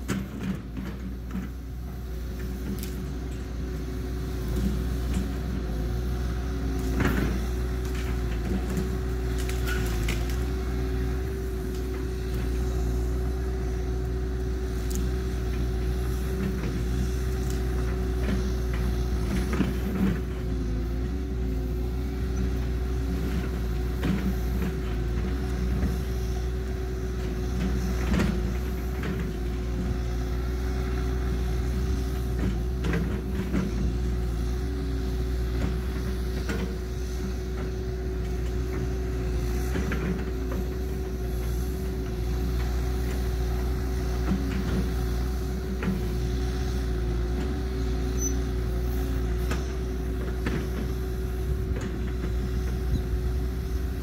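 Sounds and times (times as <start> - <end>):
excavator engine and hydraulics droning: 0.0 - 54.0.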